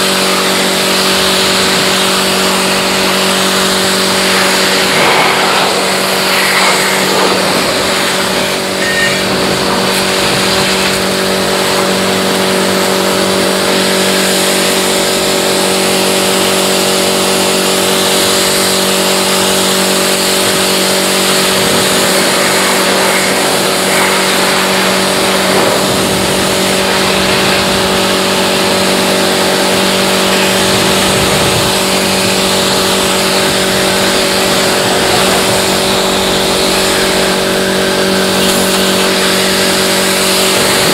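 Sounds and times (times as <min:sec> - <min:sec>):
pressure washer motor hum: 0:00.0 - 0:40.9
water spraying hiss: 0:00.1 - 0:40.9.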